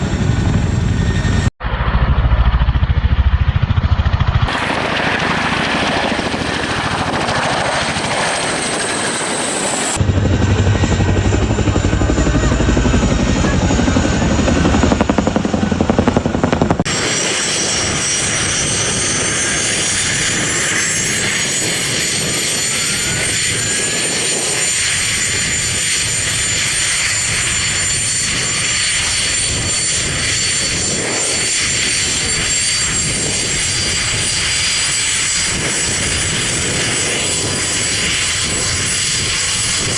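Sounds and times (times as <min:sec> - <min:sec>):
helicopter engines and rotors: 0:00.0 - 0:39.9
turbine whine: 0:00.0 - 0:39.9.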